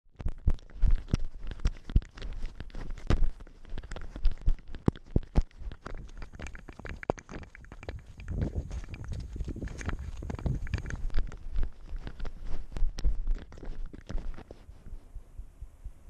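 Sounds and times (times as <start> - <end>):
footsteps crunching on snow: 0.2 - 14.9.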